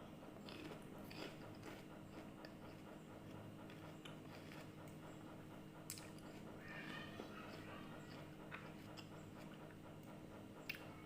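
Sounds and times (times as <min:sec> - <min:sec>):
chewing crisp fruit: 0:00.0 - 0:09.8, 0:10.6 - 0:11.0
steady low hum: 0:00.0 - 0:11.0.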